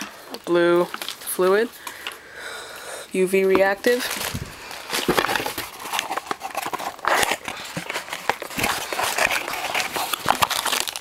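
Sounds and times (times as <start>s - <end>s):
plastic packaging crinkling: 0.0s - 2.2s, 3.5s - 11.0s.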